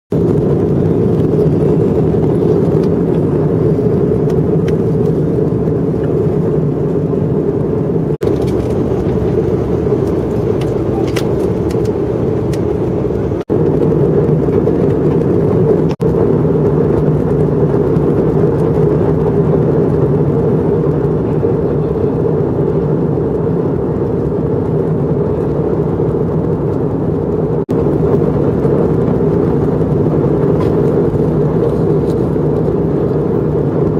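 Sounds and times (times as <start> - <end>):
airliner engine drone in cabin: 0.1 - 33.9.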